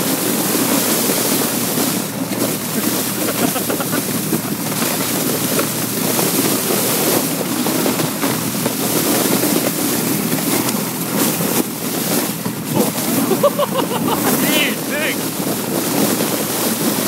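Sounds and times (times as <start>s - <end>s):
sled sliding over snow: 0.0s - 17.0s
wind buffeting microphone: 0.0s - 17.0s.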